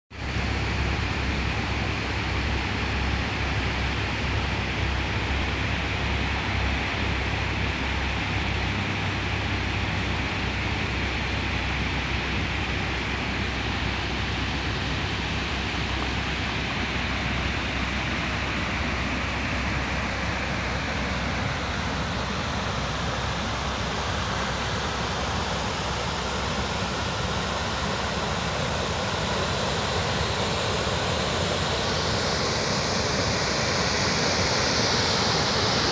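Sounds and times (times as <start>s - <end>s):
waterfall rushing: 0.2s - 35.9s.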